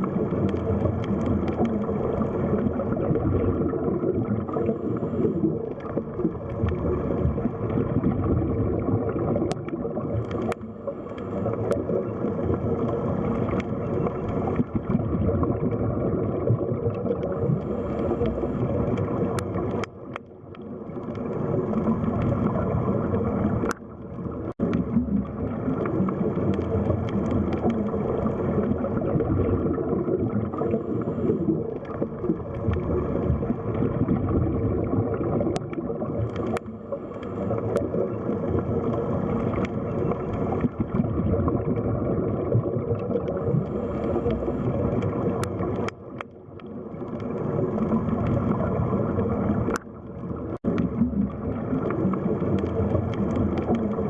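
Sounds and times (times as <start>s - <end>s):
faint clicks: 0.0s - 2.8s, 4.3s - 8.1s, 9.4s - 15.0s, 16.5s - 29.0s, 30.4s - 34.2s, 35.2s - 41.1s, 42.6s - 54.0s
underwater water noise: 0.0s - 54.0s.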